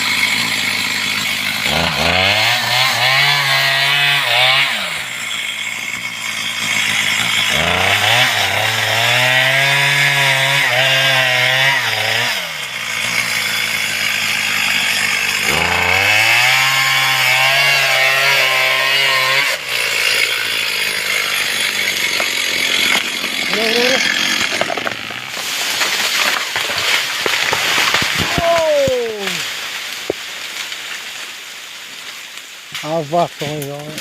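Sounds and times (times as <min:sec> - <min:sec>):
chainsaw cutting tree: 0:00.0 - 0:34.0.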